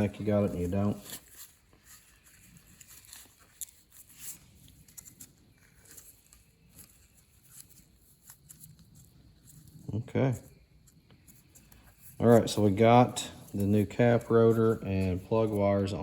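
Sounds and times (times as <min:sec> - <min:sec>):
hands rustling: 0:00.0 - 0:16.0.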